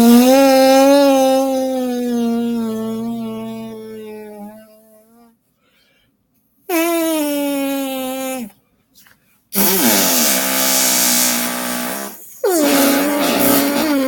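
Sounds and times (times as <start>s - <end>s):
person making fart noises: 0.0s - 5.3s, 6.7s - 8.6s, 9.6s - 14.0s.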